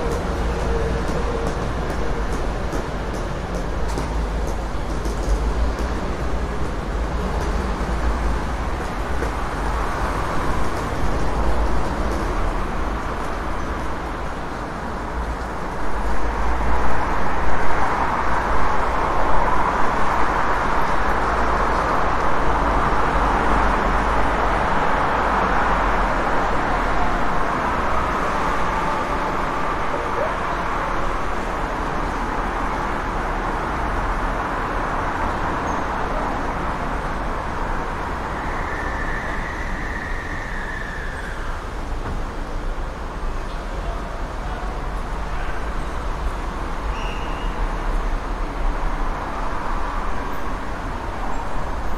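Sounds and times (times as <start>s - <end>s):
car engines and tyre noise: 0.0s - 51.9s
deep traffic rumble: 0.0s - 51.9s.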